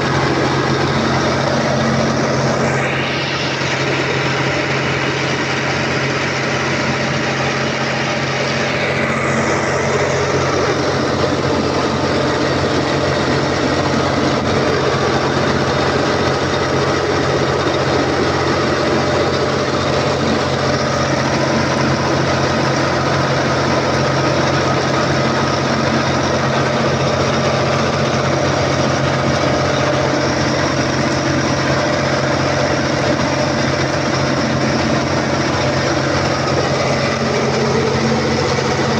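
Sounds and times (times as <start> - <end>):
diesel generator engine running: 0.0 - 38.9
high whine falling in pitch: 0.0 - 38.9.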